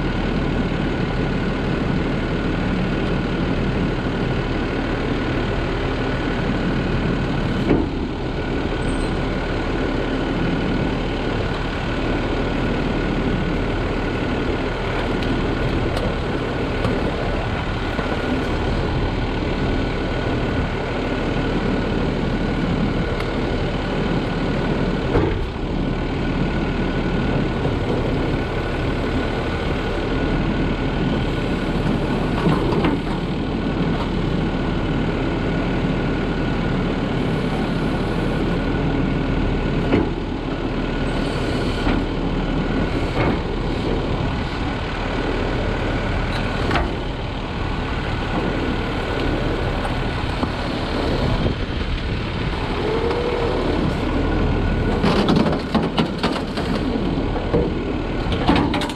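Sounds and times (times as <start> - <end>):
garbage truck engine running: 0.0 - 58.9.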